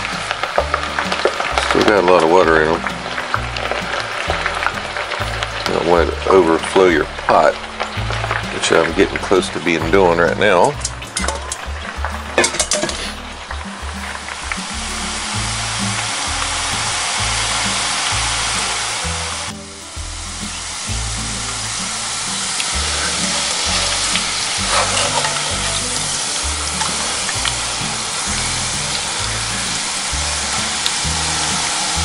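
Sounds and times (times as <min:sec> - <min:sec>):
background music with bass line: 0:00.0 - 0:32.0
potatoes sizzling in hot oil: 0:00.0 - 0:32.0.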